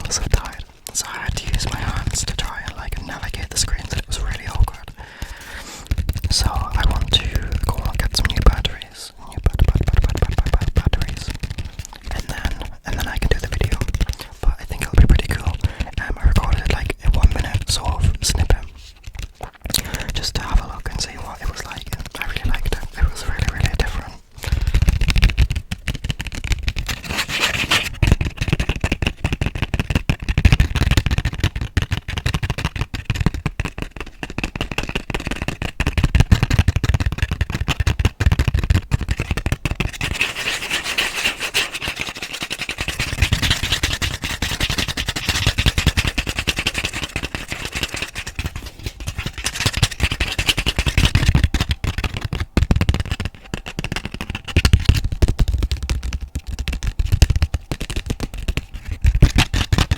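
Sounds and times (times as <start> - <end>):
scratching and tapping on microphone: 0.0 - 59.9.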